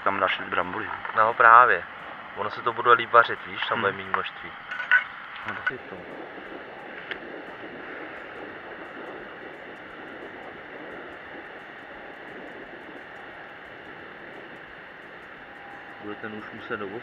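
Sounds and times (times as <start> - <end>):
gas stove burner hissing: 0.0 - 17.0.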